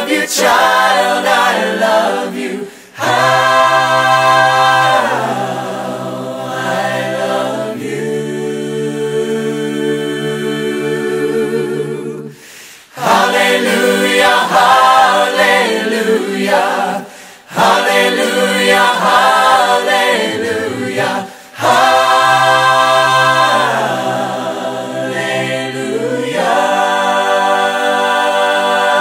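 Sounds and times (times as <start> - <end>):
voices singing in harmony: 0.0 - 29.0.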